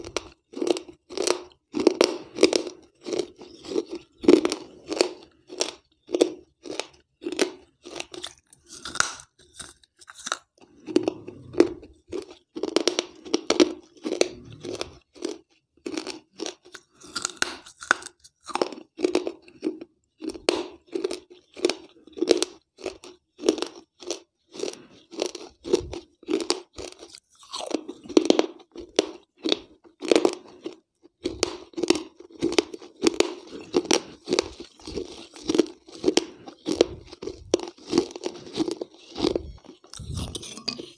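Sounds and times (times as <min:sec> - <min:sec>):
gritty crunching of chewed clay: 0:00.0 - 0:40.9.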